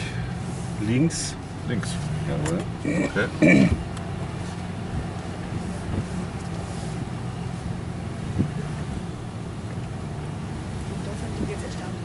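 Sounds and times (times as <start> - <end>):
truck engine running low revs: 0.0 - 12.0.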